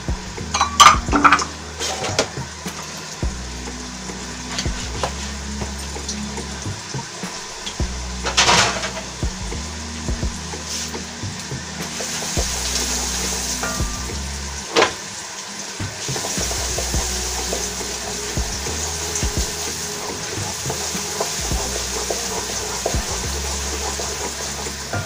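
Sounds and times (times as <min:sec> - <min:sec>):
onions sizzling in oil: 0:00.3 - 0:25.0.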